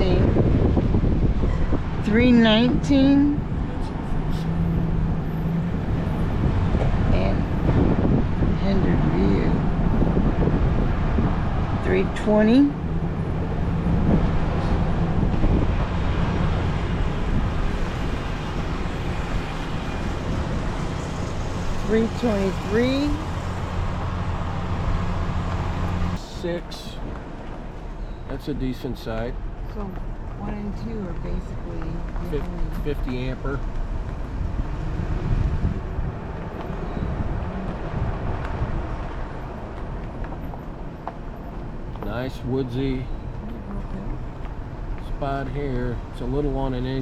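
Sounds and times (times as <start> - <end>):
car driving slowly: 0.0 - 47.0
vehicle engine and road rumble: 0.0 - 47.0.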